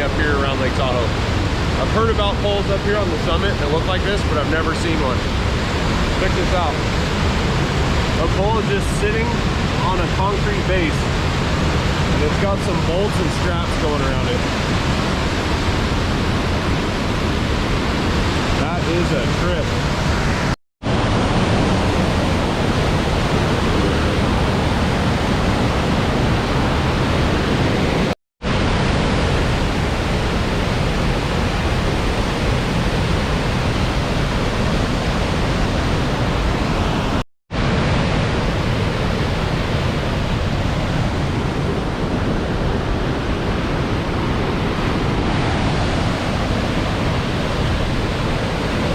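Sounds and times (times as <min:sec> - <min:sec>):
river water roaring: 0:00.0 - 0:48.9.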